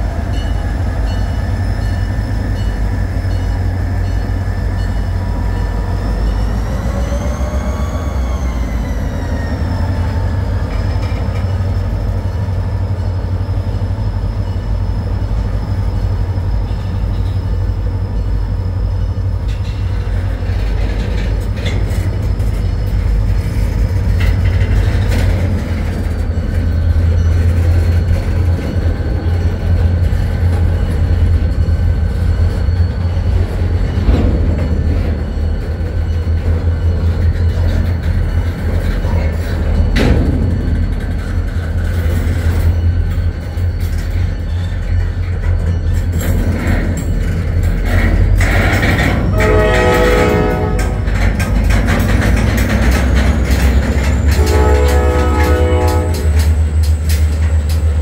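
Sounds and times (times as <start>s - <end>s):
train wheels rumbling on rail: 0.0s - 58.0s
high wheel squeal: 0.3s - 40.0s, 40.8s - 51.7s.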